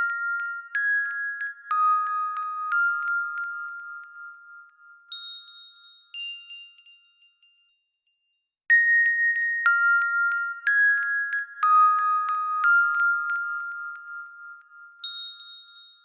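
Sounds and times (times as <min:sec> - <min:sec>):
chime ringtone melody: 0:00.0 - 0:08.0, 0:08.7 - 0:16.0.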